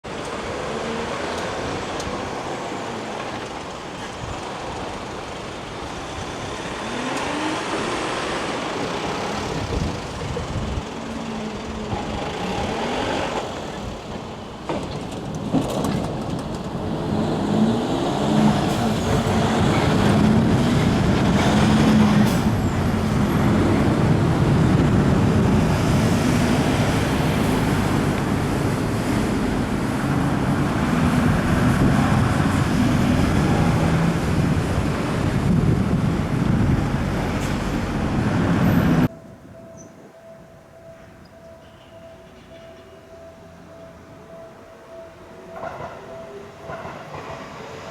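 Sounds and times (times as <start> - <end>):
trucks and cars pulling away: 0.1 - 39.9.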